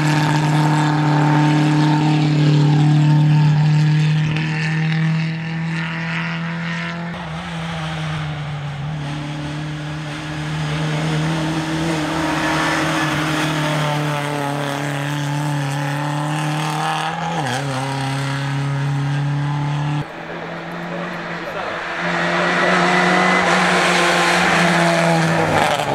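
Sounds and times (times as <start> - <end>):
rally car engine at high revs: 0.0 - 25.9
tyre and road noise: 0.0 - 25.9.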